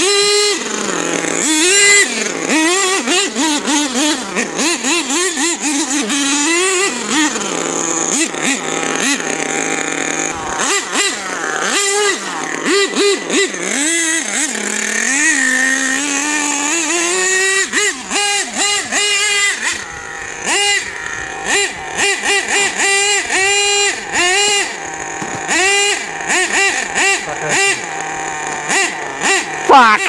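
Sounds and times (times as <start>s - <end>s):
model truck nitro engine revving: 0.0s - 30.0s.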